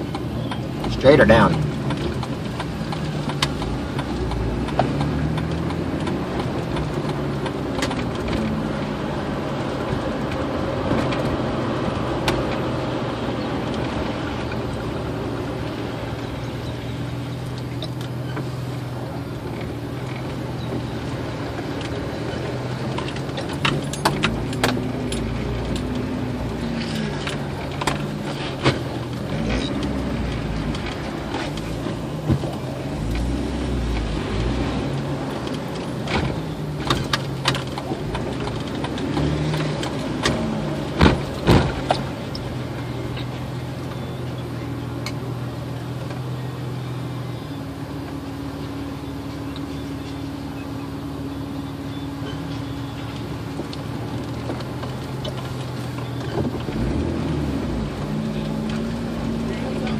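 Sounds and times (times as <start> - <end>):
car engine: 0.0 - 59.9
road noise: 0.0 - 59.9.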